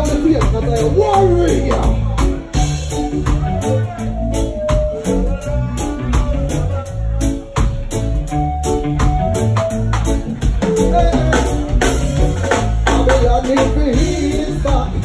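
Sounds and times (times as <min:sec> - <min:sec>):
reggae band playing: 0:00.0 - 0:15.0.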